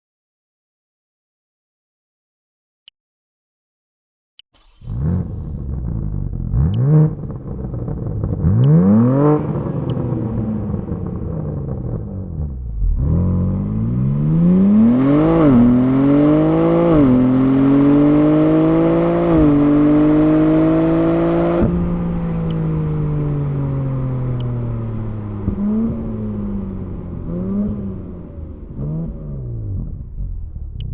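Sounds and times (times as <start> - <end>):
engine revving blips: 4.4 - 30.9
car engine revving through gears: 4.6 - 30.9.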